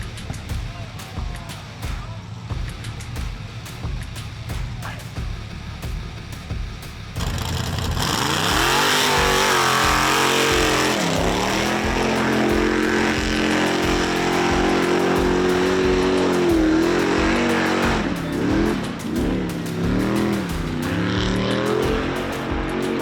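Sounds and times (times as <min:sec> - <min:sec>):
background music with steady beat: 0:00.0 - 0:23.0
truck engine revving: 0:00.0 - 0:23.0.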